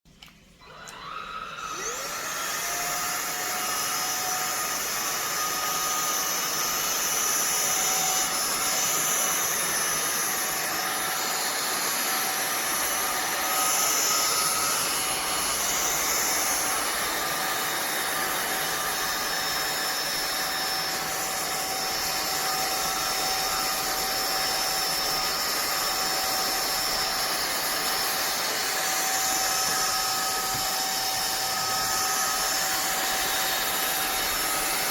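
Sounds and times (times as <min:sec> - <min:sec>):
stick vacuum motor whining: 0:00.6 - 0:34.9.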